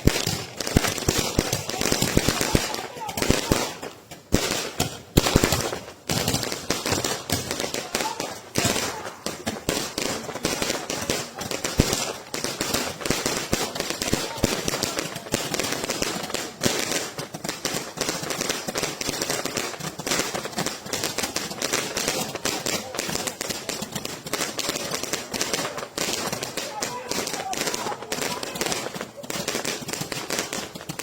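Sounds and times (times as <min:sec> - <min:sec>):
firework crackling pops: 0:00.0 - 0:31.0.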